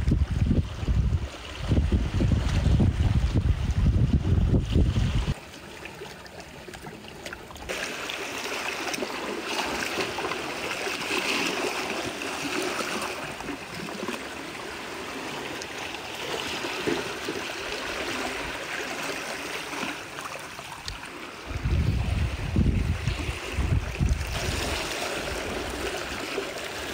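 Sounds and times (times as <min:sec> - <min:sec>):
water trickling and splashing: 0:00.0 - 0:26.9.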